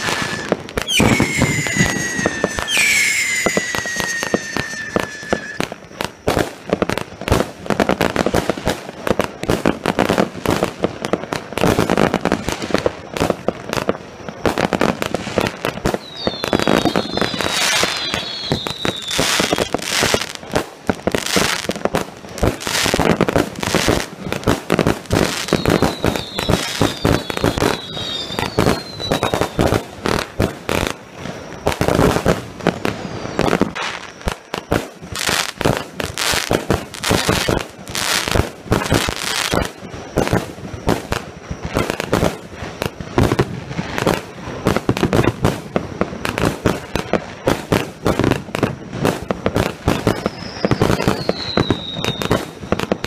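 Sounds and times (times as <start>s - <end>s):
short falling firework whistles: 0.0s - 7.5s, 11.0s - 53.0s
long falling firework whistle: 0.0s - 8.2s, 10.8s - 53.0s
firework shots and crackling bursts: 0.0s - 53.0s.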